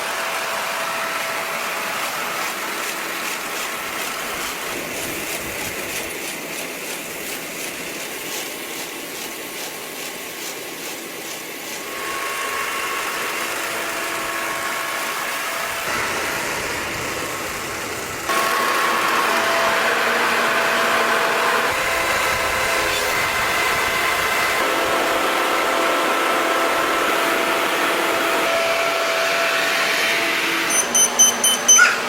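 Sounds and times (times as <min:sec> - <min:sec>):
farm machine engine: 0:00.0 - 0:31.8.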